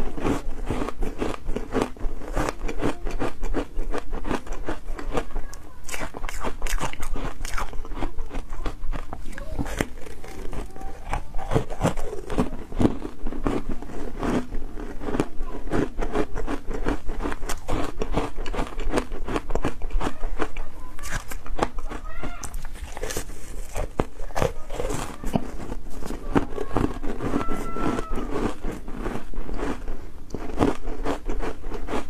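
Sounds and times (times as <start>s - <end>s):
crunching and chewing ice: 0.0s - 32.0s.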